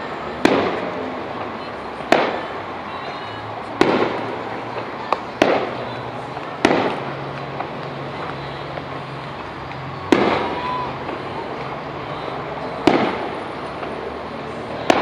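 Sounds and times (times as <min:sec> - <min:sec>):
firework shells bursting: 0:00.0 - 0:02.8, 0:03.4 - 0:15.0.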